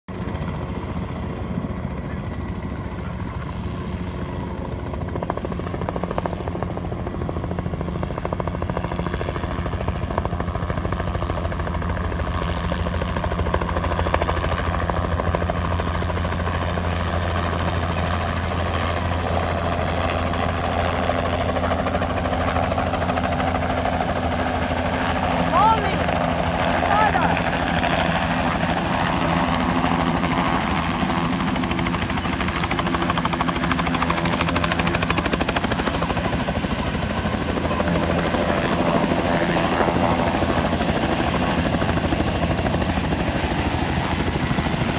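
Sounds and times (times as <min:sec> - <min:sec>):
low-flying helicopter rotor beat: 0:00.0 - 0:44.9.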